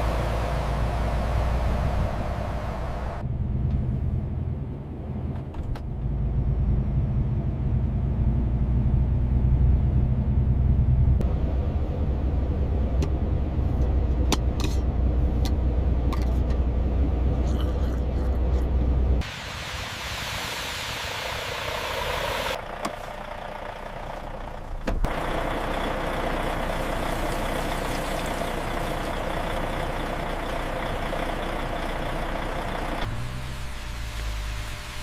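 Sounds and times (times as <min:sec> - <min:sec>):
truck engine and road noise: 0:00.0 - 0:35.0.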